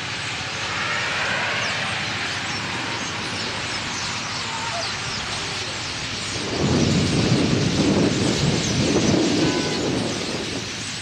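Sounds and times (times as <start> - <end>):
background traffic rumble: 0.0 - 11.0
flock of blackbirds chirping: 0.0 - 11.0.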